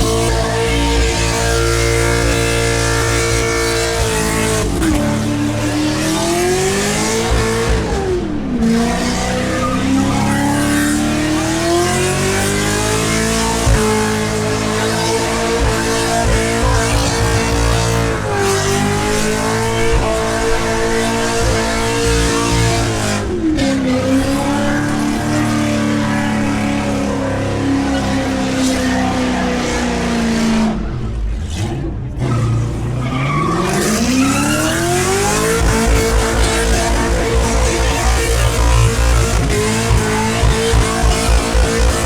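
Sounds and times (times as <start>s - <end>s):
car engine revving high: 0.0s - 42.0s.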